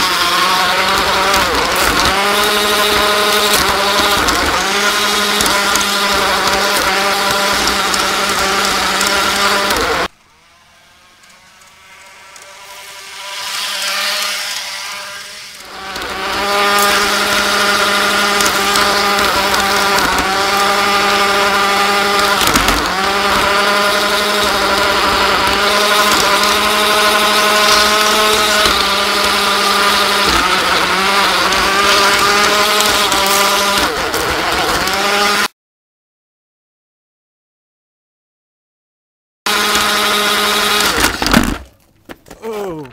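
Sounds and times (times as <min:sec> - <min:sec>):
model train motor whining: 0:00.0 - 0:35.5, 0:39.5 - 0:41.7.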